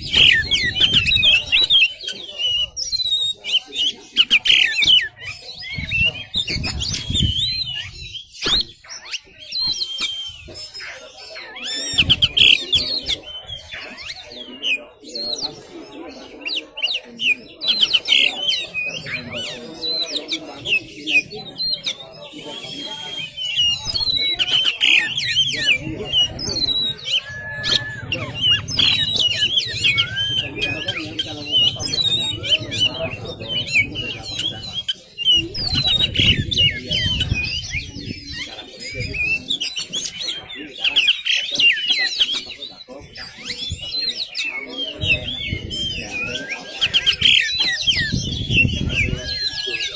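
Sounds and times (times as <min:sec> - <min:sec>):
bird singing whistled trills: 0:00.0 - 0:49.9.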